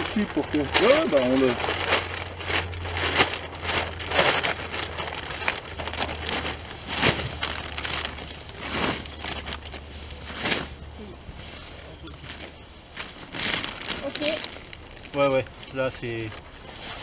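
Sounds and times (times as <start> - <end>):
plastic sacks crinkling: 0.0 - 17.0.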